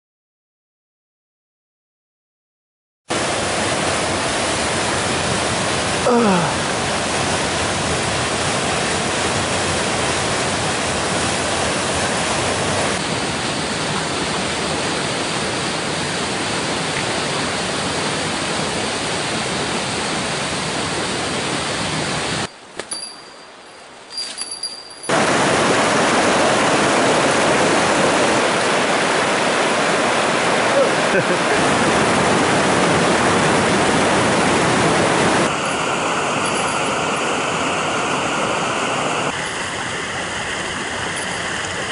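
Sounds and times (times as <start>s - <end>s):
water rushing through rocky gorge: 3.1s - 22.5s, 25.1s - 41.9s.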